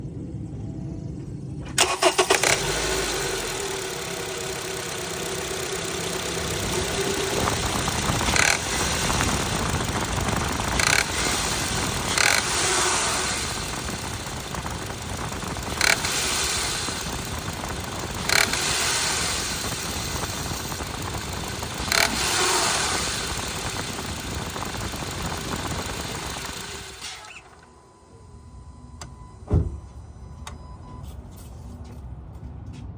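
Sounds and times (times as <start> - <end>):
car engine cranking and starting: 1.5 - 29.9
car engine running with hiss: 1.6 - 28.2.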